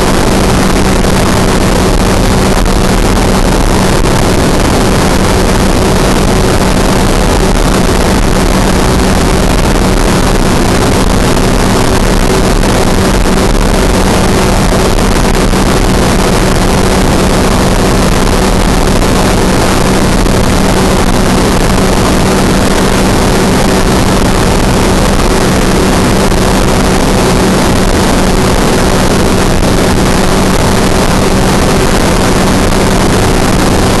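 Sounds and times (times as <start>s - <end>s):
aircraft engine drone: 0.0s - 34.0s
rushing wind noise: 0.0s - 34.0s.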